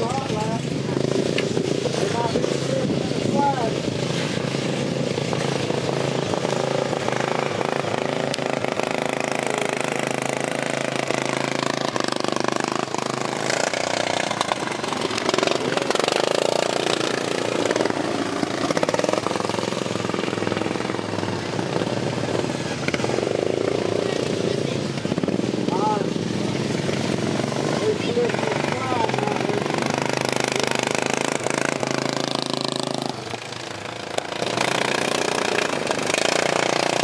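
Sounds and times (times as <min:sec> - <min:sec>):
racing lawn mower engines: 0:00.0 - 0:37.0.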